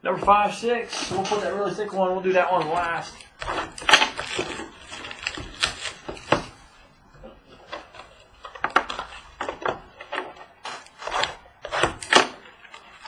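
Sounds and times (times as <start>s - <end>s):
card packs and boxes handled: 0.1s - 13.0s.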